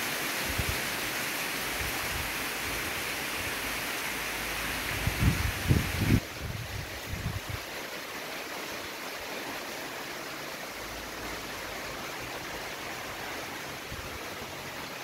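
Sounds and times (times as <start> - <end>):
heavy rain on trees and grass: 0.0 - 15.0.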